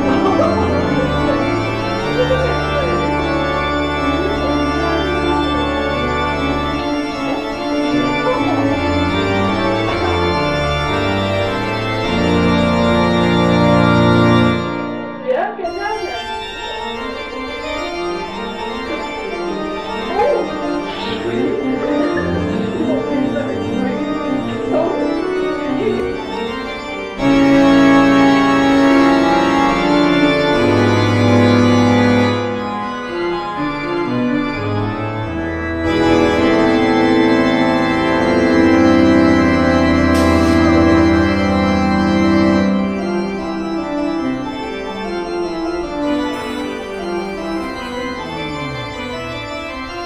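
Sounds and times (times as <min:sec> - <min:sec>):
organ-like chords music: 0:00.0 - 0:50.0.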